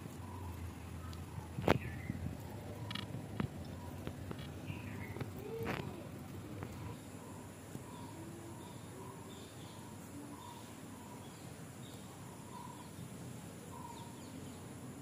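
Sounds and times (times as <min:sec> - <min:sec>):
background hiss: 0:00.0 - 0:15.0
birds chirping: 0:00.0 - 0:15.0.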